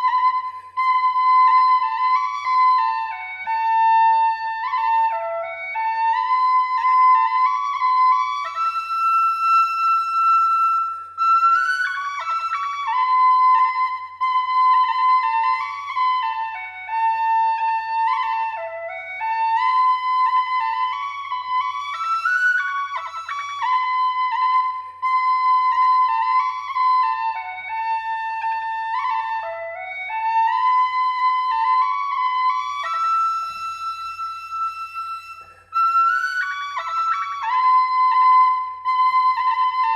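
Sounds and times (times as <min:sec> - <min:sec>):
flute playing slow melody: 0:00.0 - 0:39.9.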